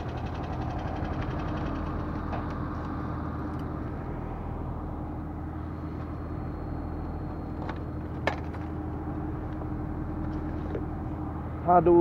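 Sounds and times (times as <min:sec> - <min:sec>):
motorcycle engine idling: 0:00.0 - 0:11.4.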